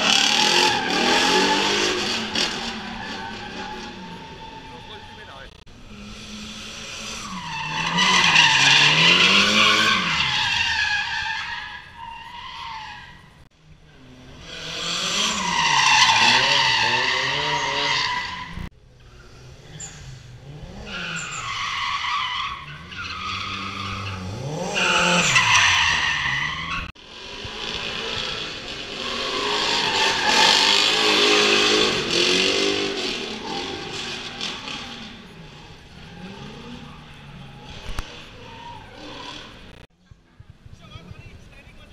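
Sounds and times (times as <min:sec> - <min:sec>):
car engine revving: 0:00.0 - 0:11.1, 0:13.9 - 0:39.9.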